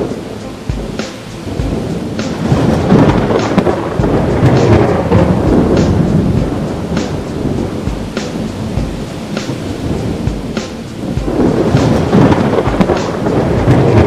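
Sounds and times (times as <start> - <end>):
deep rolling thunder: 0.0 - 14.0
heavy rain: 0.0 - 14.0.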